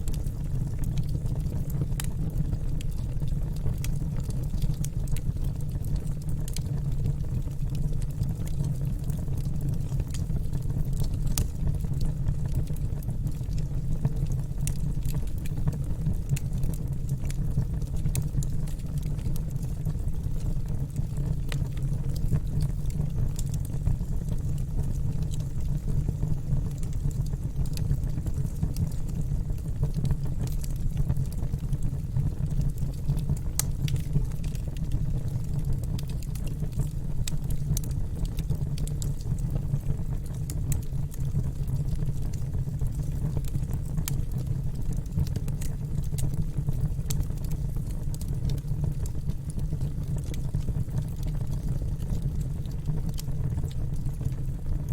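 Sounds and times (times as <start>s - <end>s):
low rumble of burning fire: 0.0s - 54.9s
wood fire pops and snaps: 0.1s - 54.9s.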